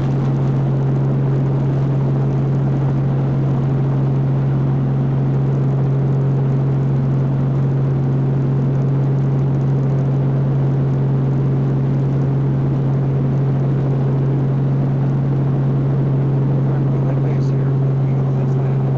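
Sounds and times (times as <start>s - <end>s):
helicopter engine and rotors droning: 0.0s - 18.9s.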